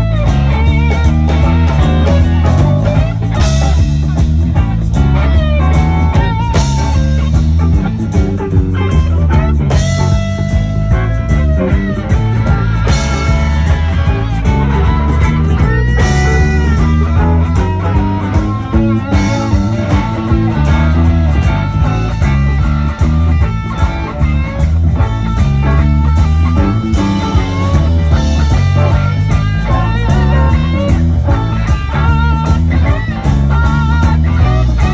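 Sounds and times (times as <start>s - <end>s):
bass guitar: 0.0s - 34.9s
electric guitar bending notes: 0.0s - 34.9s
steady drum beat: 0.0s - 34.9s.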